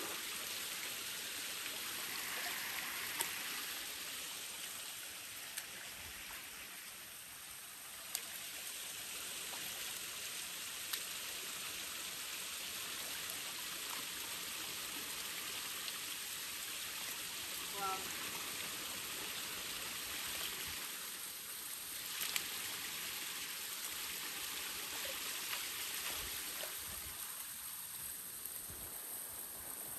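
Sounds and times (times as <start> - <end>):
river water splashing and trickling: 0.0 - 29.9.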